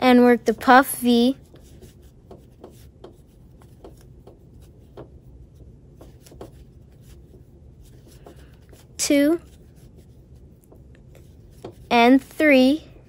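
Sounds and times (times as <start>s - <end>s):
yarn rubbing over crochet hook: 0.5s - 12.7s.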